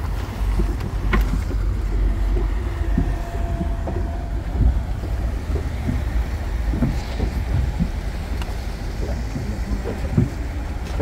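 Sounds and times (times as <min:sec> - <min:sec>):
churning boat wake: 0:00.0 - 0:11.0
motorboats rumbling: 0:00.0 - 0:11.0
wind buffeting microphone: 0:00.0 - 0:11.0.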